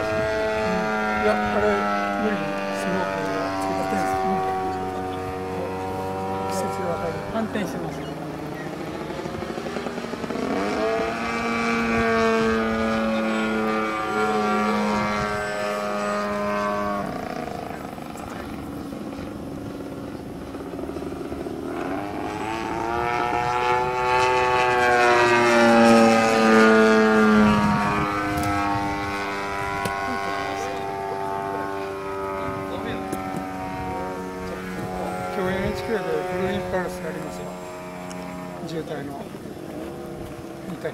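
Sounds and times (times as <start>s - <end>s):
model airplane engine droning: 0.0s - 40.9s.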